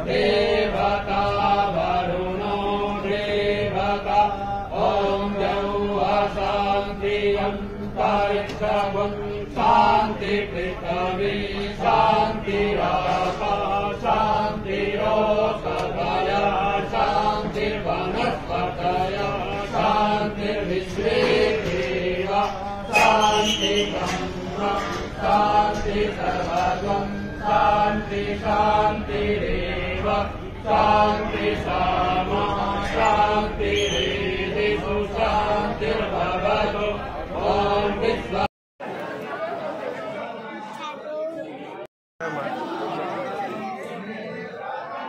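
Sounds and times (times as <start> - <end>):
rhythmic mantra chanting: 0.0 - 38.5.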